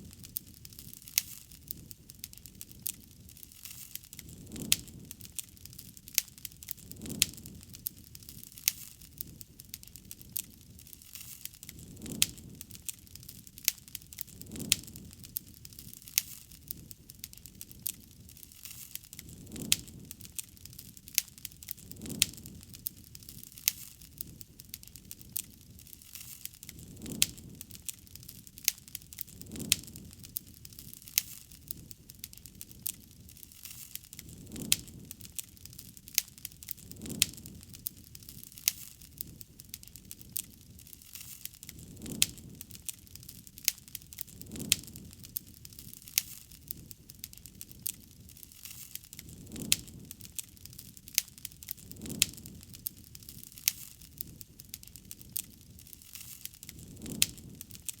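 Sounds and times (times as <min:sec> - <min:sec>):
campfire crackling: 0:00.0 - 0:58.0
fire popping and snapping: 0:00.0 - 0:58.0
soft rush of flame: 0:00.0 - 0:58.0.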